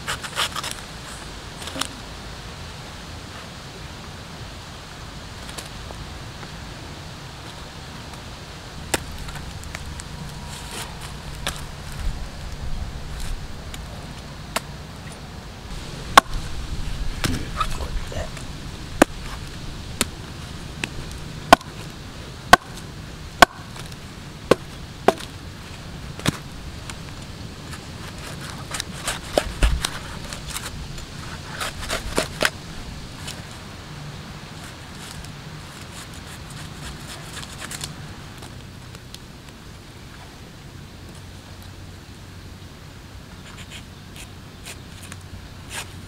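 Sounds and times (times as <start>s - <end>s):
low outdoor rumble: 0.0s - 46.0s.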